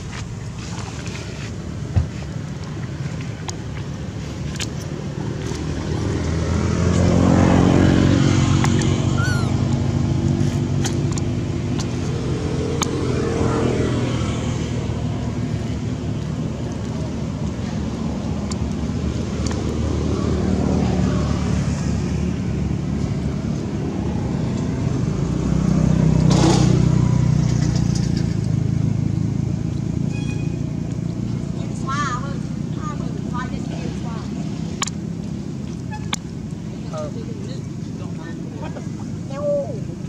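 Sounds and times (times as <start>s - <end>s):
motor vehicles passing: 0.0s - 40.0s.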